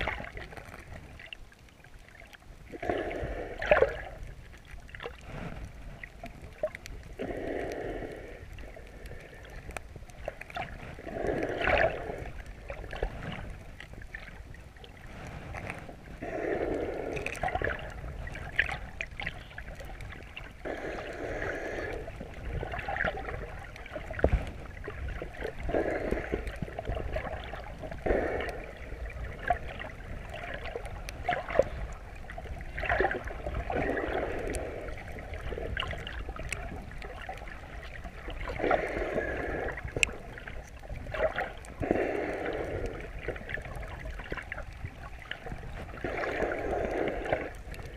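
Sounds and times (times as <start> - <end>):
muffled underwater sloshing: 0.0 - 47.9.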